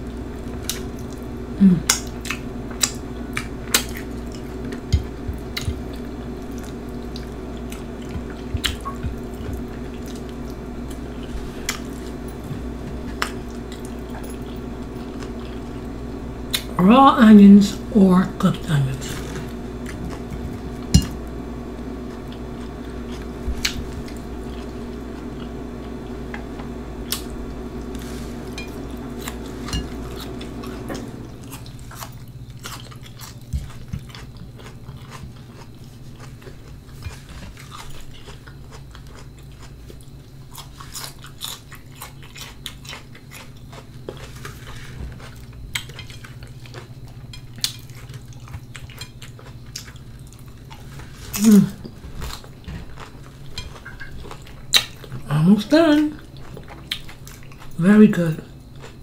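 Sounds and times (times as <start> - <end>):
chewing and crunching: 0.0 - 16.8, 18.7 - 59.0
steady background hum: 0.0 - 59.0.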